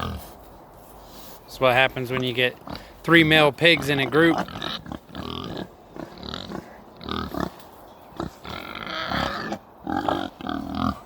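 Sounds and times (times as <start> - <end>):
pigs calling: 0.0 - 0.4, 2.0 - 11.0.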